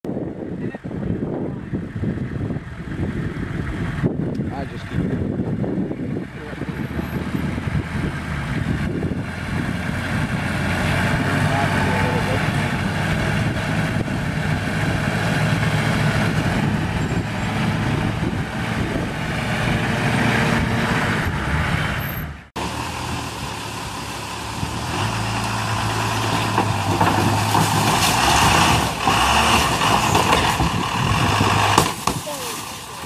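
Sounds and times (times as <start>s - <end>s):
truck engine under load: 0.2s - 33.0s.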